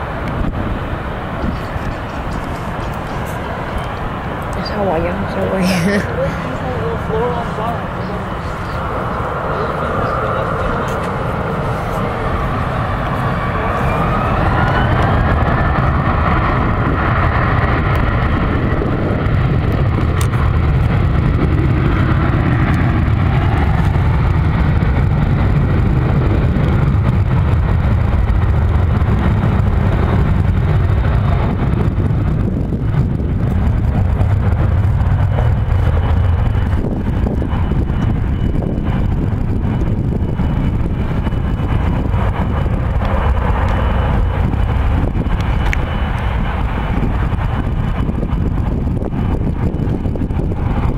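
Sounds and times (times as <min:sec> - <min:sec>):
jet engines rumbling with rising whine: 0:00.0 - 0:50.9.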